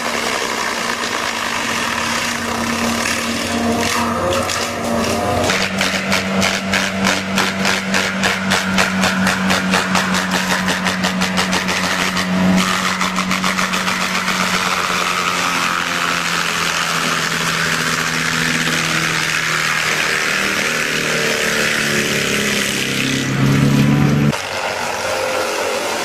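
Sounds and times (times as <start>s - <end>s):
forestry mulcher droning: 0.0s - 26.0s.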